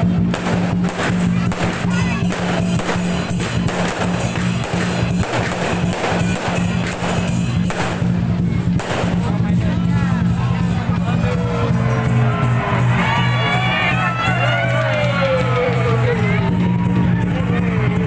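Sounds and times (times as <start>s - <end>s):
low drone: 0.0s - 18.0s
rhythmic percussion music: 0.0s - 18.0s.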